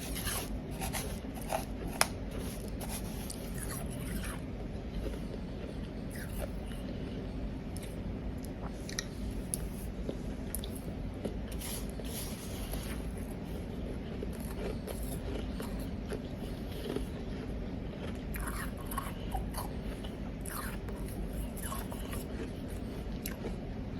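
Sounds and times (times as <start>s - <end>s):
chewing powdery ice: 0.0s - 23.6s.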